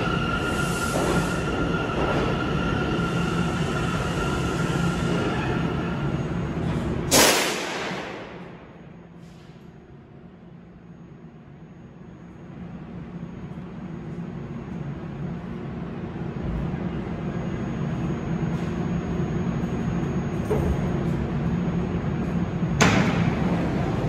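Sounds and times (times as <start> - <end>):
subway train equipment humming: 0.0 - 24.0.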